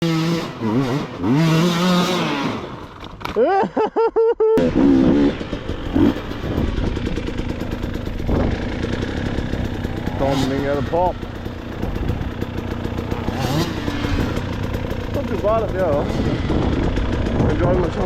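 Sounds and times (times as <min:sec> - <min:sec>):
dirt bike running steadily: 0:00.0 - 0:03.4, 0:04.6 - 0:18.0
dirt bike engines revving: 0:00.0 - 0:03.9, 0:04.6 - 0:18.0.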